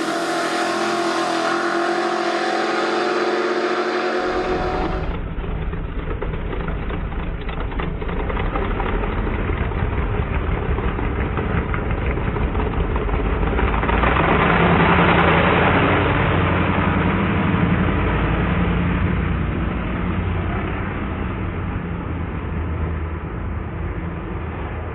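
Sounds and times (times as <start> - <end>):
vehicle engine running: 4.2 - 24.9.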